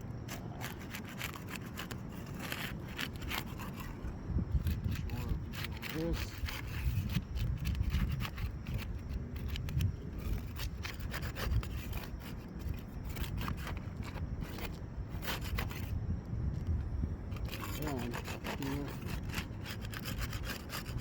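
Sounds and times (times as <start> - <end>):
pry tool scraping roof shingles: 0.3 - 15.9, 17.3 - 21.0.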